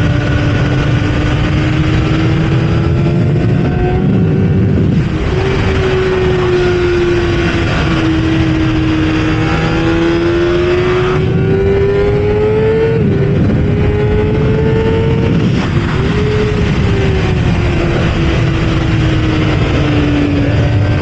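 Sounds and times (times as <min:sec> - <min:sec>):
motorcycle engine at high revs: 0:00.0 - 0:21.0
wind rush: 0:00.0 - 0:21.0.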